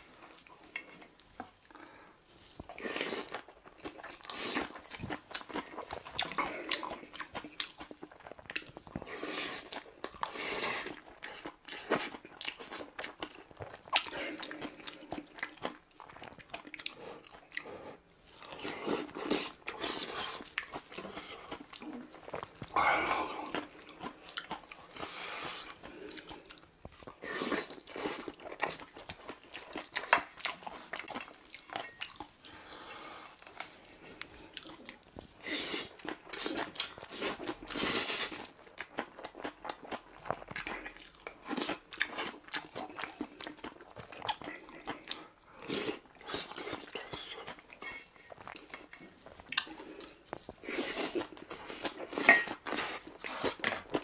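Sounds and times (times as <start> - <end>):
man chewing crunchy food: 0.0 - 54.0.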